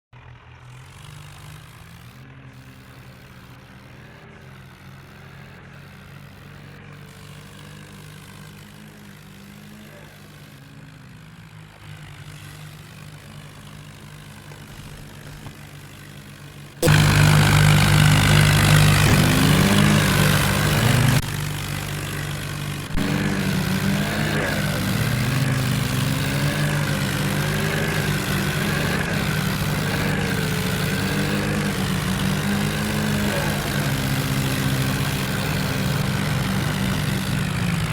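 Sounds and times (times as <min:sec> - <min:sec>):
tractor engines running: 0:00.0 - 0:37.9.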